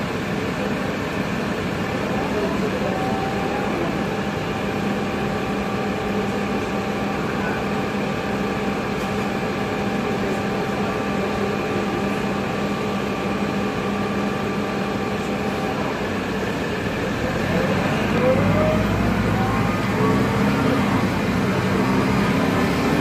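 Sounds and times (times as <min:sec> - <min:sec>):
diesel bus engine running: 0:00.0 - 0:23.0.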